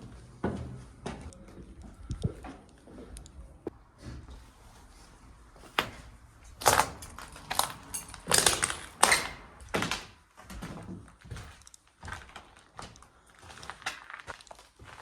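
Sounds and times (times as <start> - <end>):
footsteps on gritty floor: 0.0 - 15.0.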